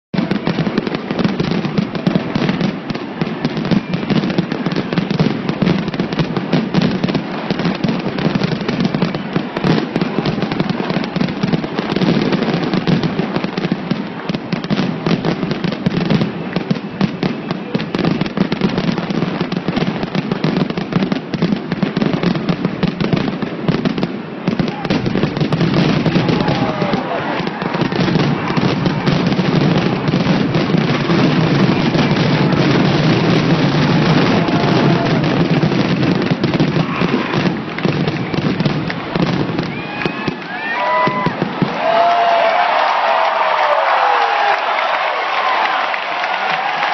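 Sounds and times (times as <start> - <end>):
rapid firework bangs: 0.2 - 43.7.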